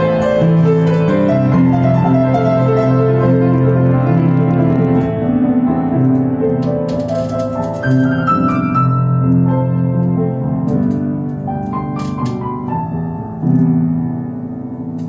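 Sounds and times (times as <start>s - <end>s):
piano instrumental music: 0.0s - 15.0s.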